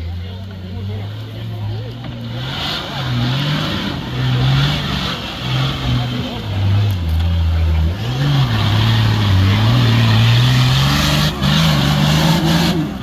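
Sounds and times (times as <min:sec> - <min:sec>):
diesel engine revving hard: 0:00.0 - 0:13.0.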